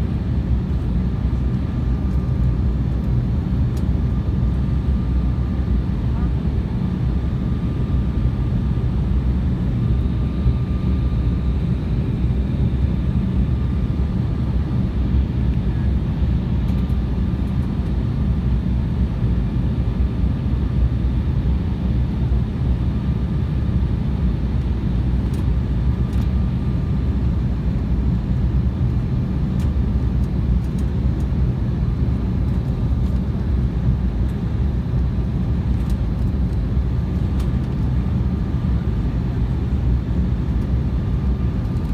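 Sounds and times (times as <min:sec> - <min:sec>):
faint steady whines: 0:00.0 - 0:41.9
airliner cabin rumble: 0:00.1 - 0:41.9.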